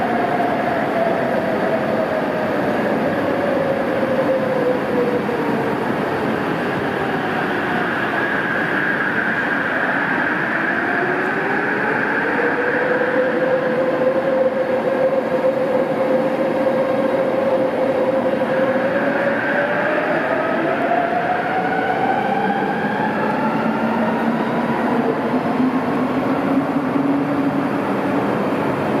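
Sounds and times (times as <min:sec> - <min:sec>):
train cars running noise: 0:00.0 - 0:29.0.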